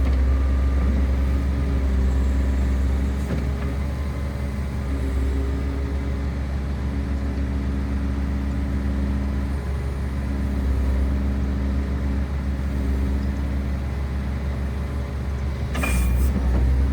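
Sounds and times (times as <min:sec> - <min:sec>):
excavator diesel engine droning: 0:00.0 - 0:16.9.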